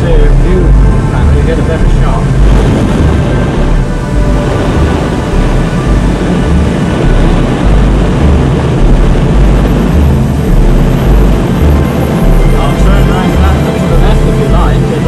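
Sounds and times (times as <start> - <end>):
airflow rushing past cockpit: 0.0 - 15.0.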